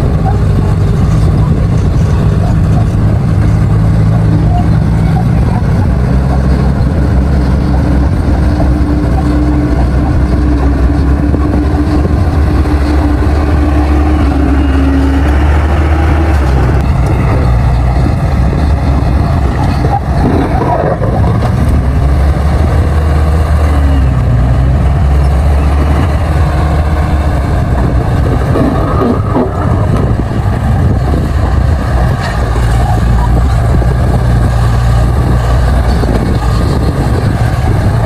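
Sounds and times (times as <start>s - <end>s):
bulldozer diesel engine running: 0.0s - 38.0s
steady whine: 0.0s - 38.0s.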